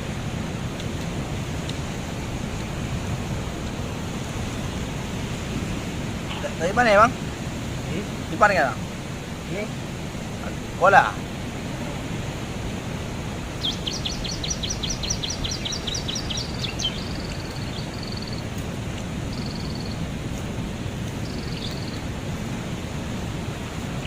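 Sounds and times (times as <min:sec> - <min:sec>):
steady rushing background noise: 0:00.0 - 0:24.0
songbird singing: 0:02.5 - 0:22.4.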